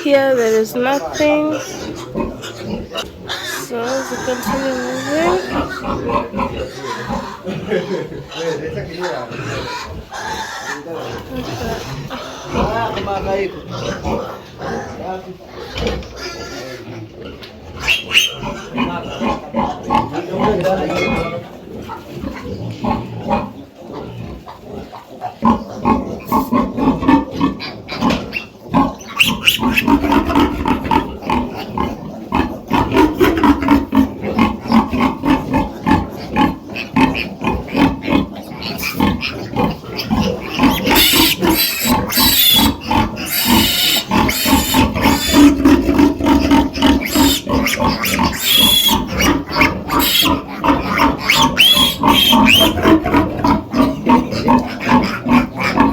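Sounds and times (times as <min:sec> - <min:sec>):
pigs grunting: 0:00.0 - 0:55.9
pigs squealing: 0:00.0 - 0:55.9.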